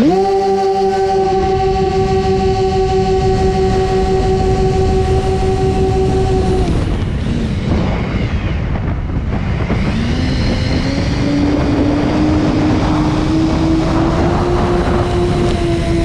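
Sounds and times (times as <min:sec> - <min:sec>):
electric propeller motor whining: 0:00.0 - 0:16.0
wind rushing on microphone: 0:00.0 - 0:16.0.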